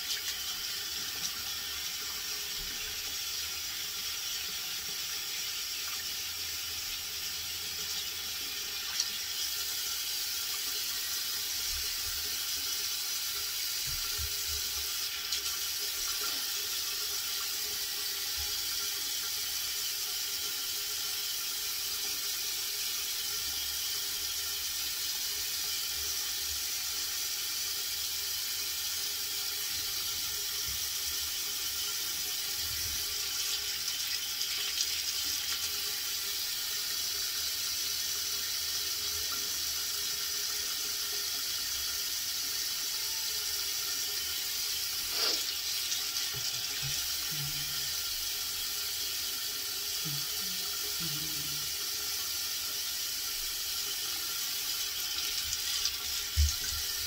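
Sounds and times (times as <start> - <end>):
tap water running into sink: 0.0 - 57.0.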